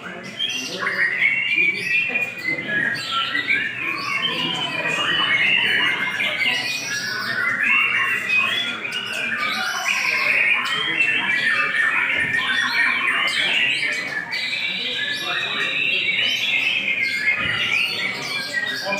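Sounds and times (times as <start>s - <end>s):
songbirds chirping and chattering: 0.0s - 18.9s.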